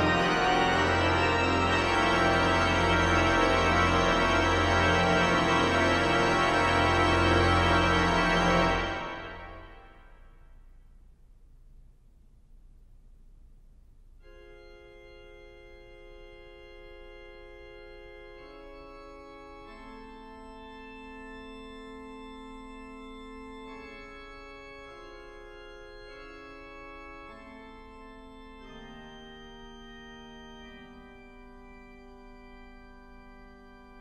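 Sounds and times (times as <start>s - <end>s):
pipe organ chords: 0.0s - 10.3s, 14.2s - 34.0s.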